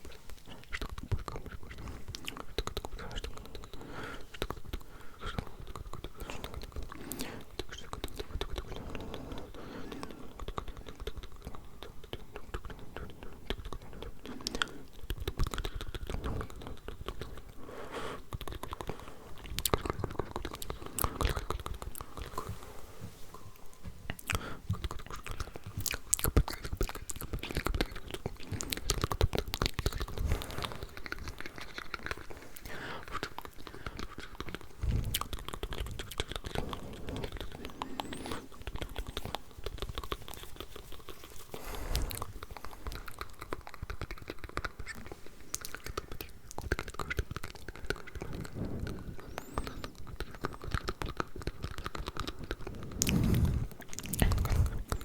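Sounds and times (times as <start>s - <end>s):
wet mouth clicks and smacks: 0.0s - 22.6s, 23.3s - 55.0s.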